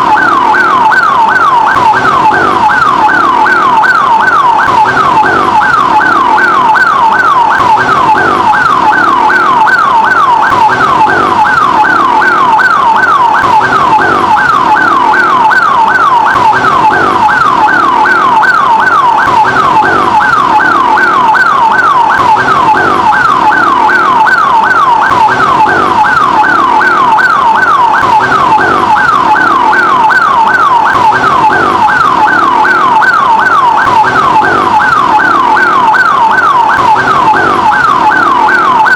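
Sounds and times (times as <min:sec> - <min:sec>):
ambulance siren yelping: 0:00.0 - 0:38.9.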